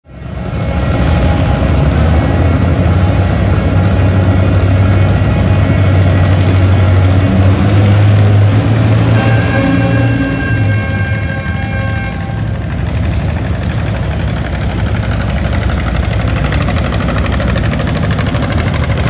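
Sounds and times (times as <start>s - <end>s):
tractor engine running hard: 0.0s - 19.0s.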